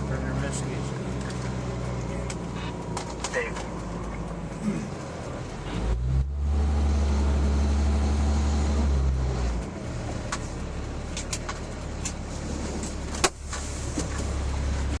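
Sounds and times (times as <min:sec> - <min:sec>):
fire truck engine running: 0:00.0 - 0:15.0.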